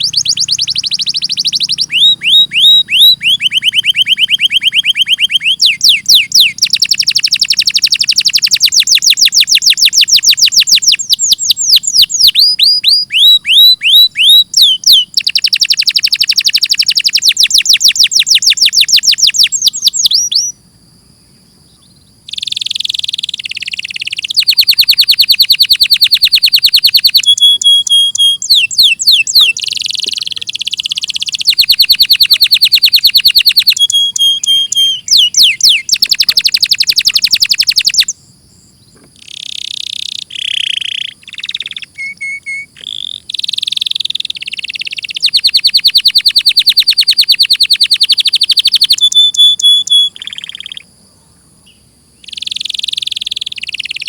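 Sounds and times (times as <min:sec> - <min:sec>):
canary singing trills: 0:00.0 - 0:50.9, 0:51.6 - 0:54.0.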